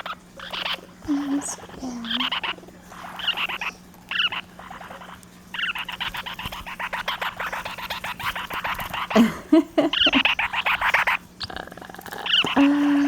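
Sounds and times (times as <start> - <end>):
parrots chattering: 0.0 - 13.0.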